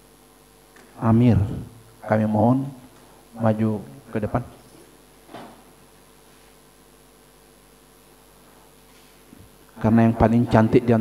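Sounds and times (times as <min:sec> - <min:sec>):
low even hum: 0:00.0 - 0:11.0.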